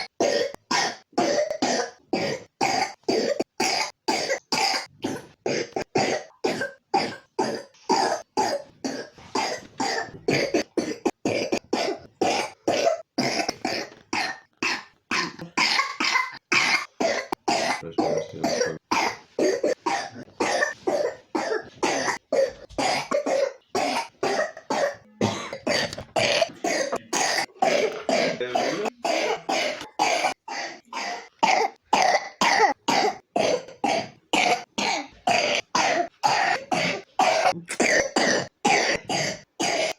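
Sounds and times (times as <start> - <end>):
child coughing: 0.0 - 39.9.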